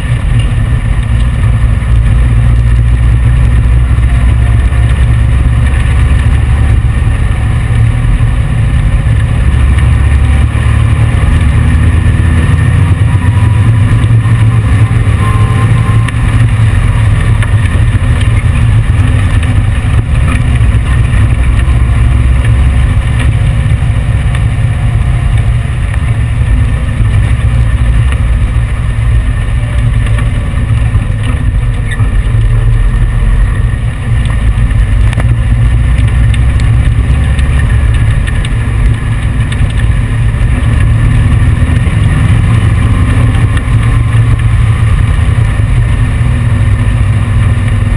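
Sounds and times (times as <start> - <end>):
loud air-cooled engine running: 0.0 - 47.9.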